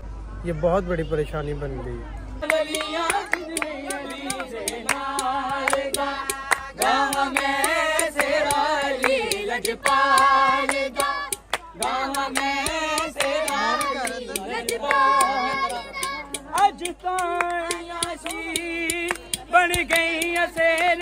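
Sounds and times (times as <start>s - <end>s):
group of voices singing: 2.4s - 21.0s
rhythmic hand clapping: 2.4s - 21.0s.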